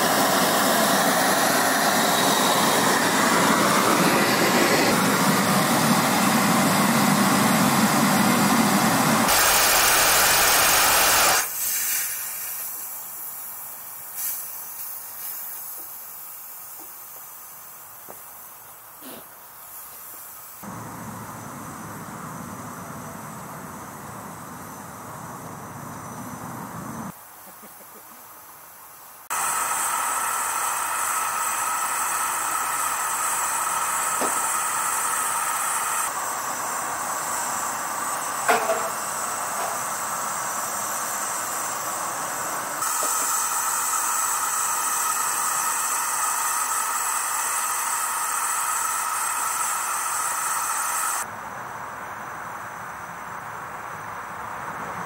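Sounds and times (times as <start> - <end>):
steam hissing: 0.0 - 27.2, 29.2 - 51.3.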